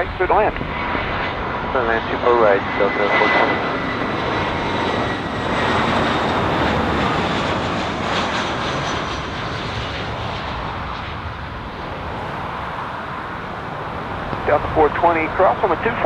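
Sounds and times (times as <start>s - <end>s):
jet airliner landing roar: 0.0s - 16.0s.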